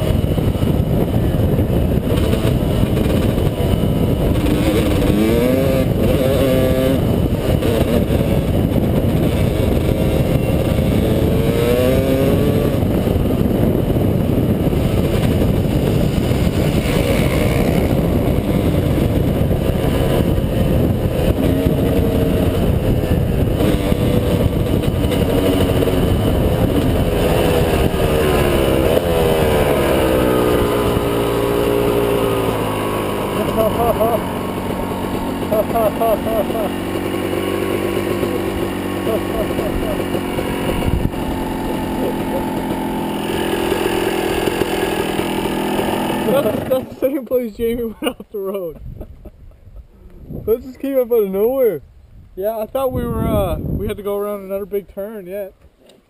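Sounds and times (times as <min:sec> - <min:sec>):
wind rushing: 0:00.0 - 0:47.0, 0:51.7 - 0:54.0
dirt bike engine revving: 0:00.0 - 0:48.6.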